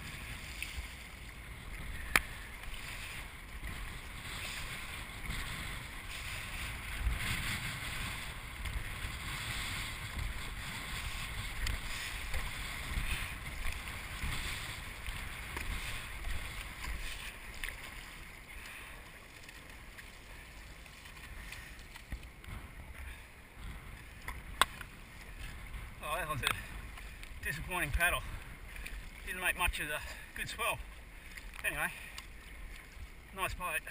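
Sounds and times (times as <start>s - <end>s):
paddle strokes splashing: 0.0s - 33.9s
water rushing along hull: 0.0s - 33.9s
wind rumbling on microphone: 0.0s - 33.9s.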